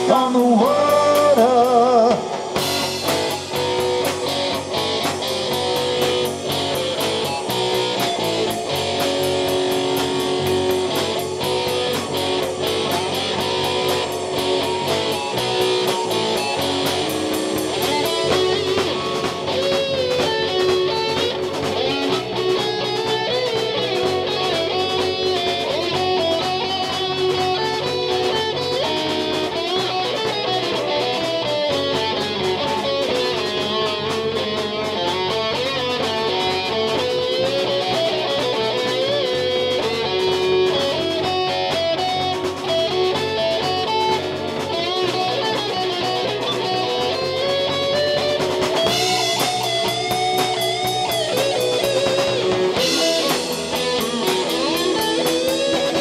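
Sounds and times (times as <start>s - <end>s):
bass guitar: 0.0s - 56.0s
drum beat: 0.0s - 56.0s
electric guitar lead: 0.0s - 56.0s.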